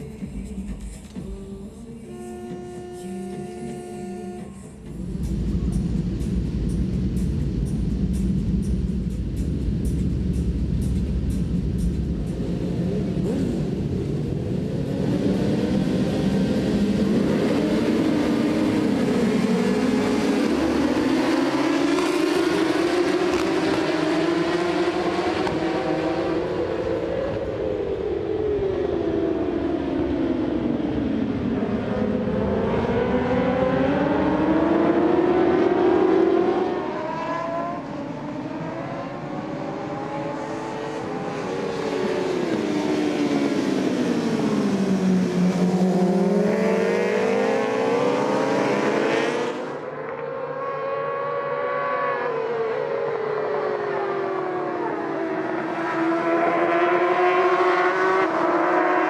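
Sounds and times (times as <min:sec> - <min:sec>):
racing motorcycle engines revving: 0:02.1 - 0:08.4, 0:11.3 - 0:59.0.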